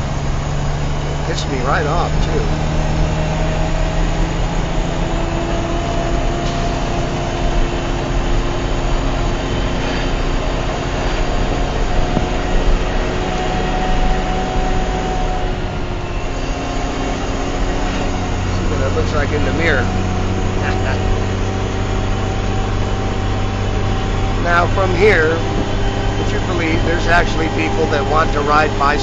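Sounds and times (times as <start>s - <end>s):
road noise: 0.0s - 29.0s
truck diesel engine running: 0.0s - 29.0s.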